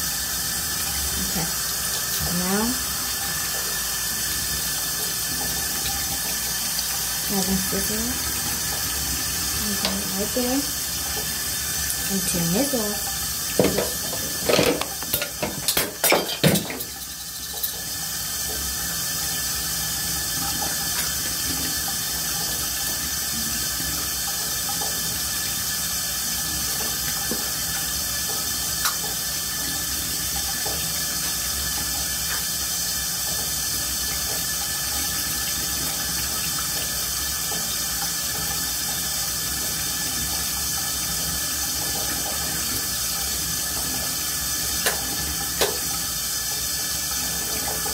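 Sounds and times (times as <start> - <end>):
water running steadily: 0.0 - 47.9.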